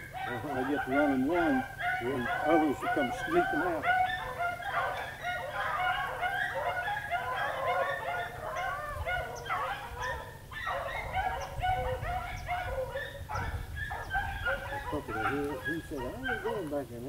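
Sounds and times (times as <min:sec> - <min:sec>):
pack of dogs baying: 0:00.0 - 0:17.0.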